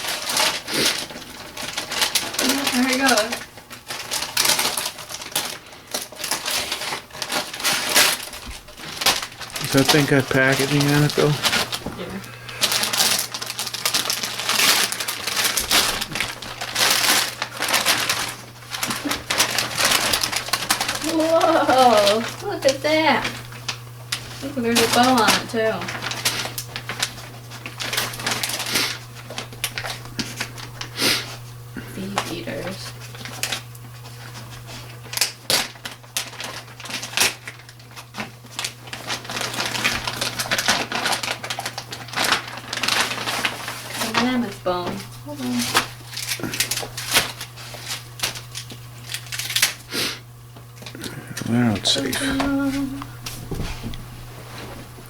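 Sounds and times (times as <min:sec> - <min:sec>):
steady low hum: 0:00.0 - 0:37.3, 0:38.5 - 0:55.0
wrapping paper crinkling and tearing: 0:00.0 - 0:55.0.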